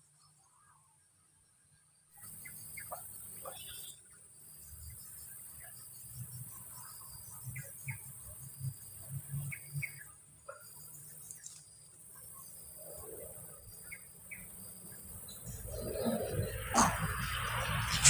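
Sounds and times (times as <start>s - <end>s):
high-pitched insect chorus: 2.1s - 18.0s.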